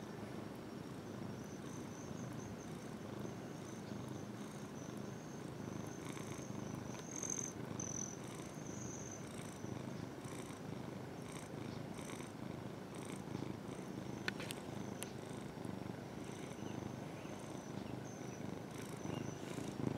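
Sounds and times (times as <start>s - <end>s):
cat purring: 0.6s - 19.9s.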